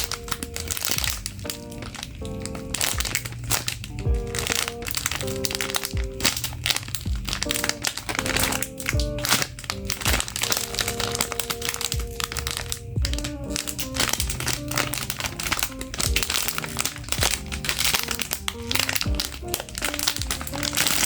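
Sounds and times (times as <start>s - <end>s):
background music: 0.0s - 21.0s
plastic packaging crinkling: 0.0s - 21.0s.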